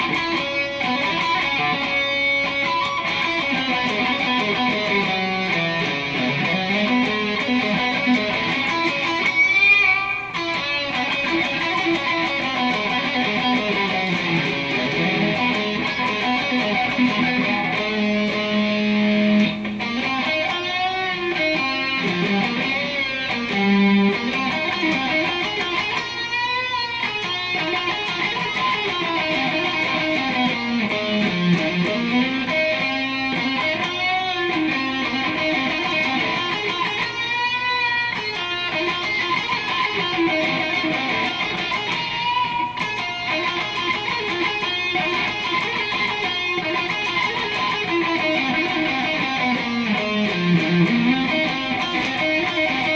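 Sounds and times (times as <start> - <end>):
distorted electric guitar riff: 0.0 - 52.9.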